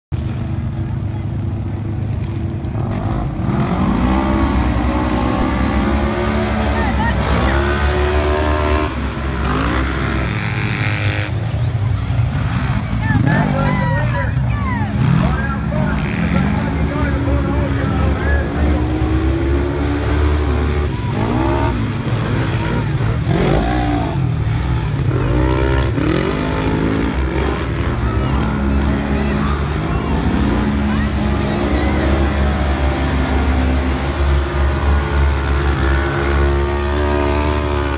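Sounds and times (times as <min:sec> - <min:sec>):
race engines revving: 0:00.2 - 0:37.9.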